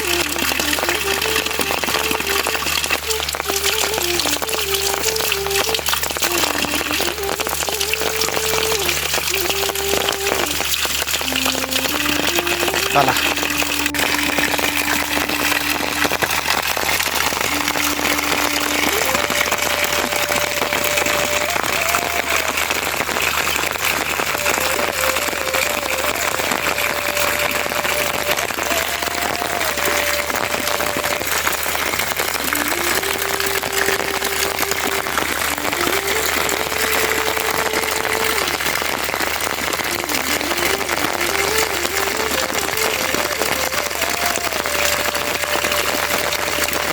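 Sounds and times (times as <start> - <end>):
heavy rain hissing: 0.0 - 46.9
slow tune of held notes: 0.0 - 46.9.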